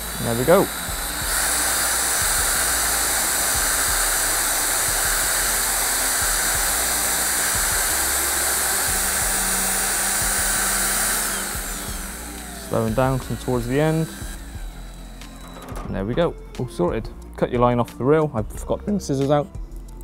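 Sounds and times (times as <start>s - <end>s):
cordless drill whining: 0.0s - 17.0s.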